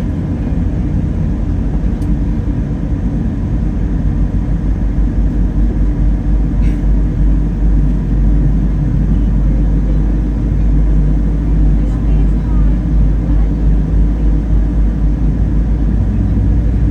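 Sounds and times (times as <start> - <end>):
jet engine roar in cabin: 0.0 - 16.9.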